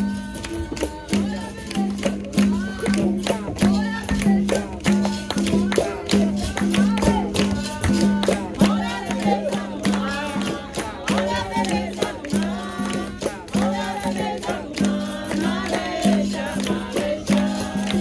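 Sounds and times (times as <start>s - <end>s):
group singing: 0.0s - 18.0s.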